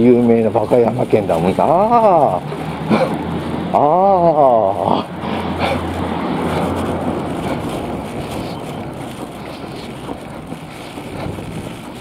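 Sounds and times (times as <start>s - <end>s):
road noise: 0.0s - 12.0s
vehicle engine humming: 0.0s - 12.0s
wind on microphone: 0.0s - 12.0s.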